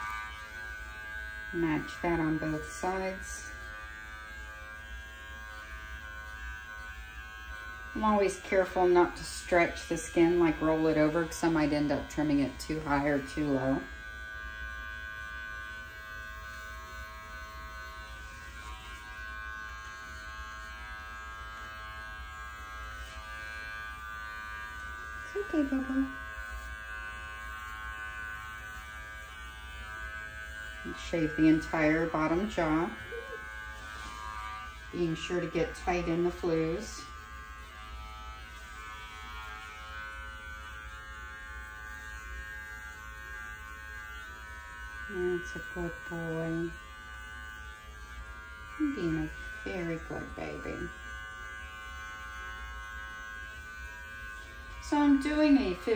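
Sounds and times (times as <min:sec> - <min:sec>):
electric clippers buzzing: 0:00.0 - 0:55.9.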